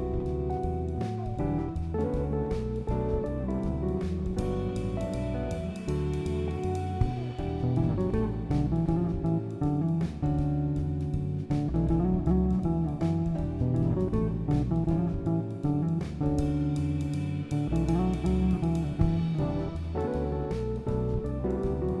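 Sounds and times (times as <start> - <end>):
bass line: 0.0 - 22.0
steady beat: 0.0 - 22.0.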